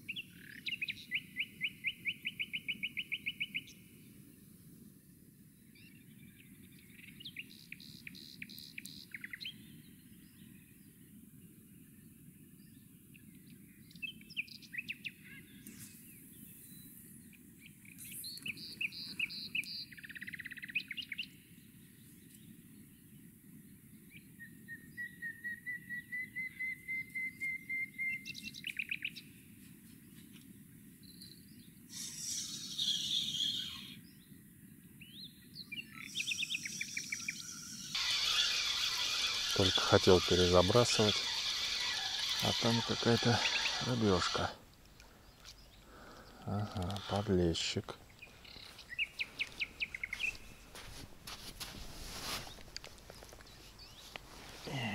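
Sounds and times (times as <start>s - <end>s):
songbirds singing: 0.0s - 4.5s, 5.4s - 51.7s, 52.4s - 54.9s.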